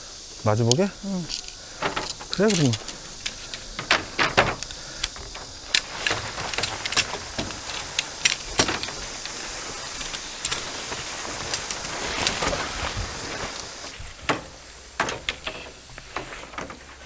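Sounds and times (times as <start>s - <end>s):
rain hissing: 0.0s - 17.0s
sharp clicks and knocks: 0.7s - 17.0s.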